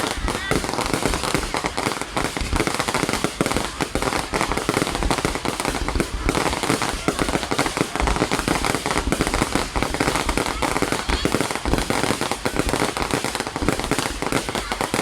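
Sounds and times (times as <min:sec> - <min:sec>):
deep firework thuds: 0:00.0 - 0:15.0
fireworks bangs and crackles: 0:00.0 - 0:15.0.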